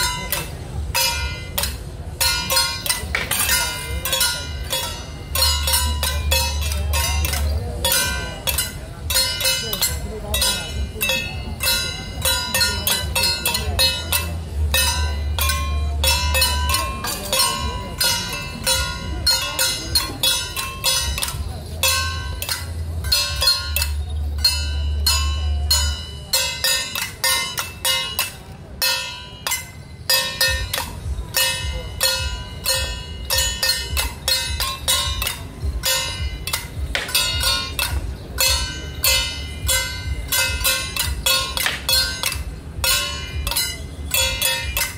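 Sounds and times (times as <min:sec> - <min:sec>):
gongs and cymbals clanging: 0:00.0 - 0:44.9.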